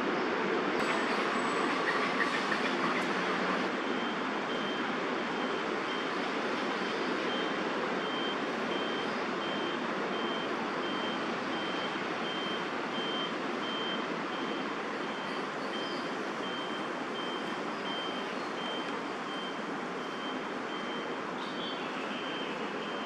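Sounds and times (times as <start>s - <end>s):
city traffic noise: 0.0s - 23.0s
vehicle reversing alarm beeping: 3.7s - 23.0s.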